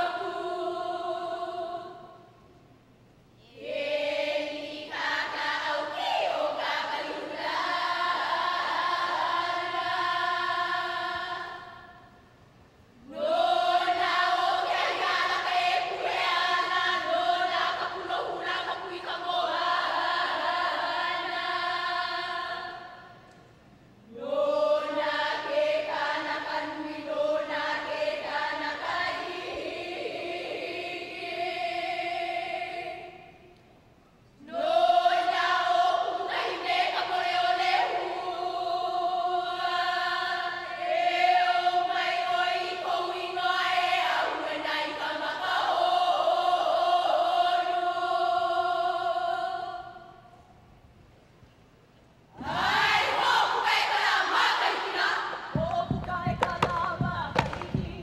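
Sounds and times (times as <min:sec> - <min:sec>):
women chanting in unison: 0:03.4 - 0:12.0, 0:13.1 - 0:23.1, 0:24.2 - 0:33.3, 0:34.4 - 0:50.1, 0:52.4 - 0:58.0.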